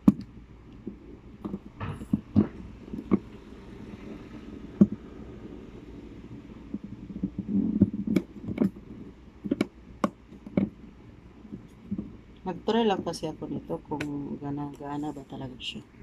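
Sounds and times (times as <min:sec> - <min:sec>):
low rumbling handling noise: 0:00.0 - 0:16.0.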